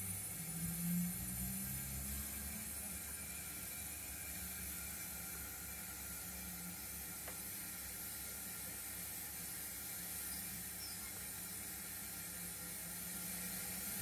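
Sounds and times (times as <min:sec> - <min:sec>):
model train motor whir: 0:00.0 - 0:14.0.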